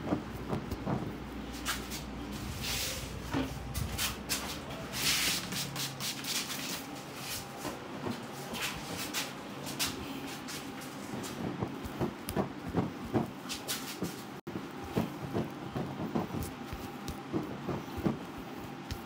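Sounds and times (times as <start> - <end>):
hand rubbing skin and cloth: 0.1 - 19.0.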